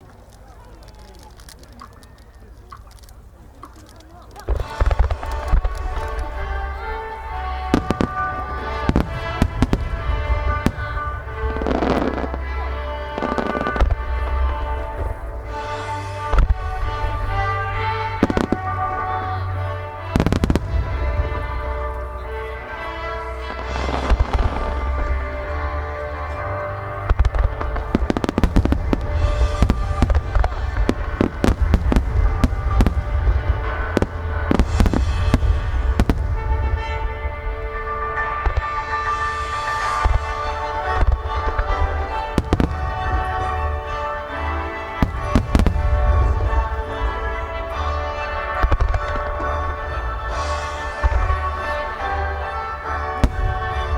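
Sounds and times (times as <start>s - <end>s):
crackling fireworks shower: 0.0s - 53.9s
fireworks bursting: 0.0s - 53.9s
music: 1.1s - 53.9s
steady low rumble: 4.4s - 52.3s.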